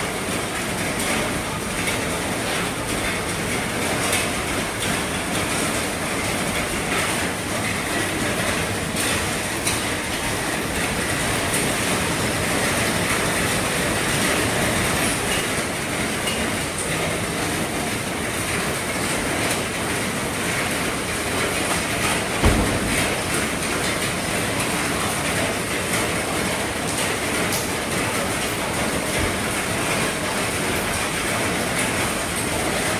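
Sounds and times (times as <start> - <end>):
heavy rain drumming on a roof: 0.0 - 32.9.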